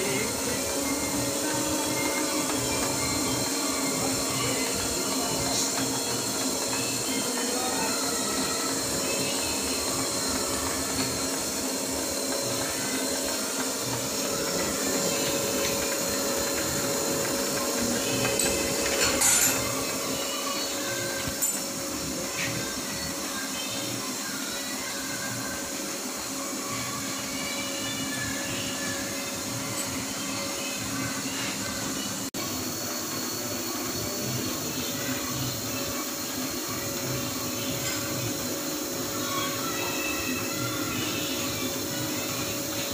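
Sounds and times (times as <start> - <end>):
machine humming: 0.0 - 42.9.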